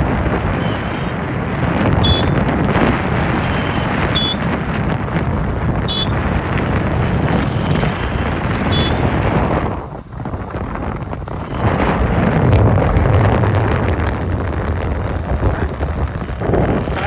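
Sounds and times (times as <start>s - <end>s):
traffic rumble: 0.0s - 17.0s
wind buffeting microphone: 0.0s - 17.0s.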